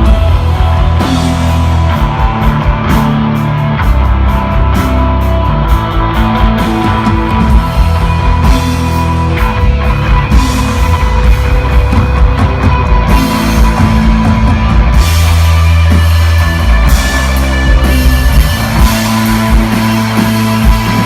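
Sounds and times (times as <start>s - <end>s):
bass guitar: 0.0s - 21.0s
drum kit with cymbals: 0.0s - 21.0s
electric guitar: 0.0s - 21.0s.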